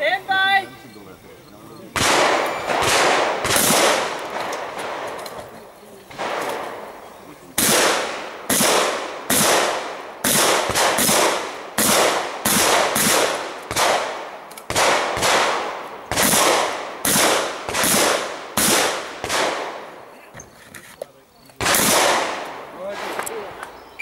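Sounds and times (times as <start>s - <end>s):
shotgun shots echoing: 2.0s - 5.5s, 6.1s - 20.0s, 21.6s - 23.8s.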